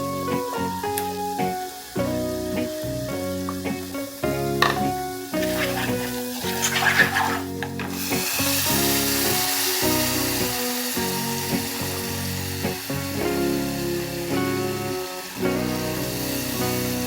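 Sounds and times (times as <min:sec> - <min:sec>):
background music with held notes: 0:00.0 - 0:17.0
food sizzling while frying: 0:00.0 - 0:17.0.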